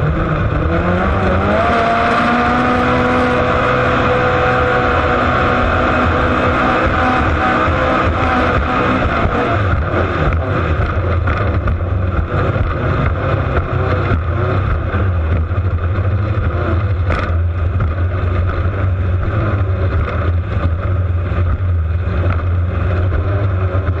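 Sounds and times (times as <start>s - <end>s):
race boat engine droning: 0.0s - 24.0s
water and wind noise: 0.0s - 24.0s.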